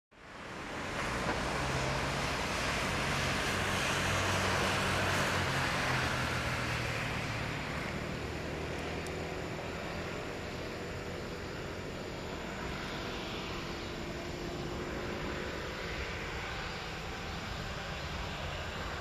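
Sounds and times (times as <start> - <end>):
jet airliner taxiing: 0.2 - 19.0.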